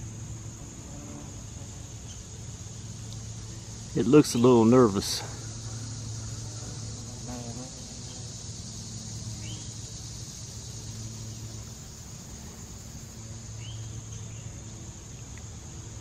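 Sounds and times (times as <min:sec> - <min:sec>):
high-pitched insect chorus: 0:00.0 - 0:16.0
low steady hum: 0:00.0 - 0:16.0.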